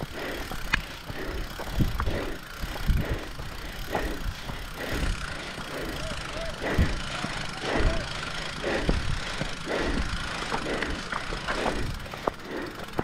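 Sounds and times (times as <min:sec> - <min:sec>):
bike rattling over rough trail: 0:00.0 - 0:13.0
steady rushing noise: 0:00.0 - 0:13.0.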